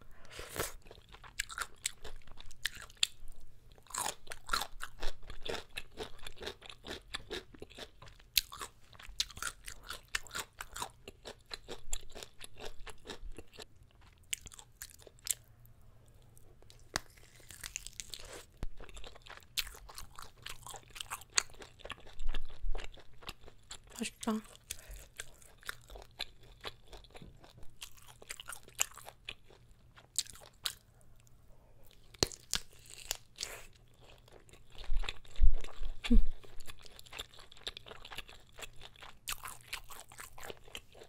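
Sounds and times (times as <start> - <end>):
person chewing crunchy food: 0.2 - 15.5, 16.2 - 41.0.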